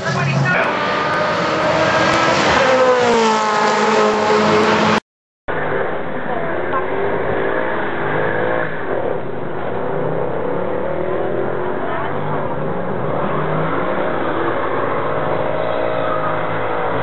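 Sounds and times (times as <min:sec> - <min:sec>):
supercar engine revving: 0:00.0 - 0:17.0.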